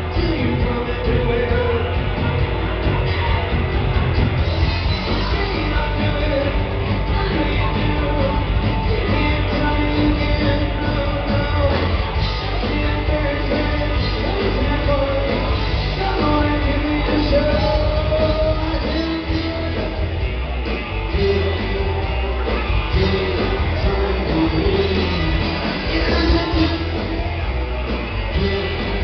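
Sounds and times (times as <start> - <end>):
man singing: 0.0 - 2.4, 4.8 - 20.1, 21.0 - 27.4, 28.2 - 29.0
live rock and roll band: 0.0 - 29.0.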